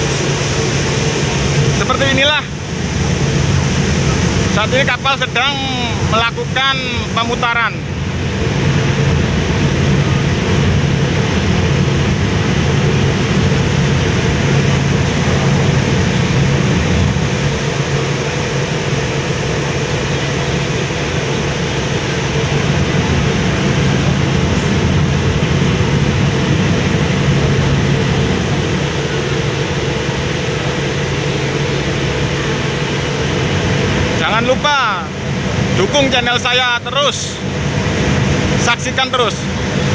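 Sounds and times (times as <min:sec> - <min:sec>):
ferry diesel engines droning: 0:00.0 - 0:39.9
wind and water rushing: 0:00.0 - 0:39.9.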